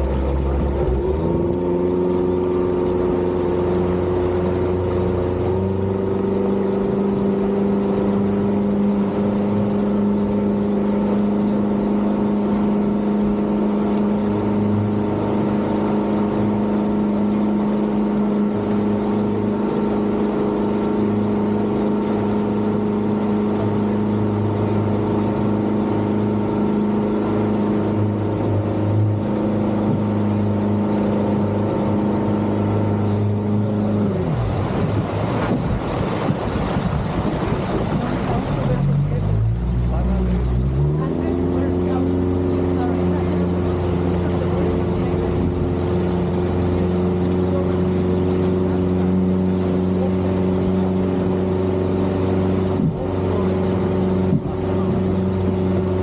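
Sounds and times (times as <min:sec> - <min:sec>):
outboard motor drone: 0:00.0 - 0:56.0
water rushing past: 0:00.0 - 0:56.0.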